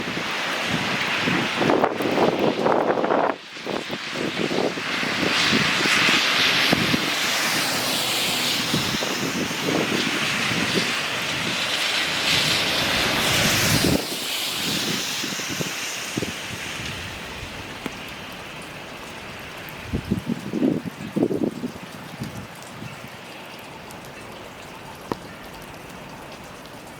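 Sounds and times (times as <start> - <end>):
wind buffeting microphone: 0.0 - 18.2, 19.2 - 23.2.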